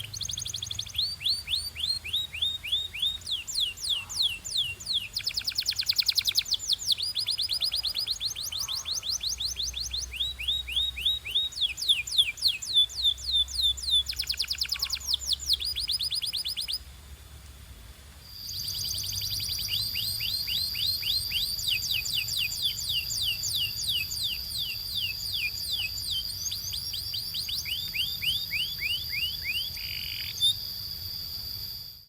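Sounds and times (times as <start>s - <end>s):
canary singing: 0.0s - 16.9s, 18.3s - 31.8s.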